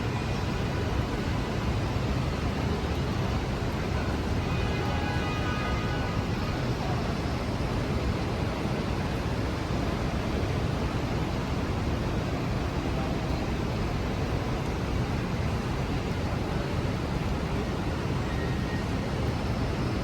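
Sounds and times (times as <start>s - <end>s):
city traffic: 0.0s - 20.0s
steady rain: 0.0s - 20.0s.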